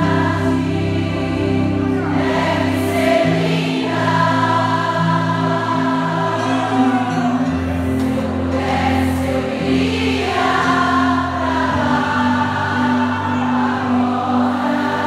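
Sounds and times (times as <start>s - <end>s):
choir singing a hymn: 0.0s - 15.0s.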